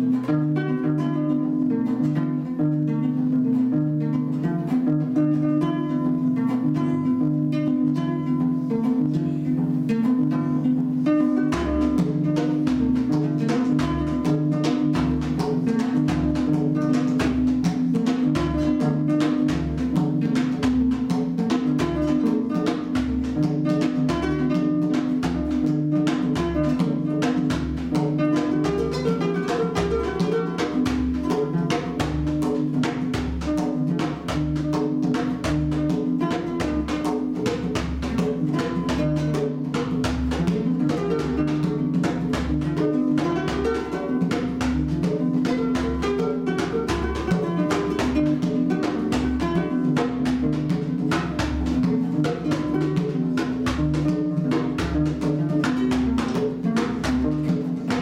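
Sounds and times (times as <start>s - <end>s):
hand drum rhythm: 0.0s - 58.0s
plucked harp-lute: 0.0s - 58.0s.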